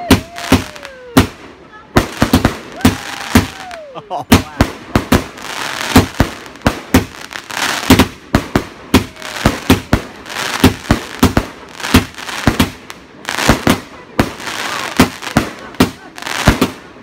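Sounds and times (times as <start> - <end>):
fireworks banging: 0.0 - 17.0
fireworks crackling hiss: 0.0 - 17.0.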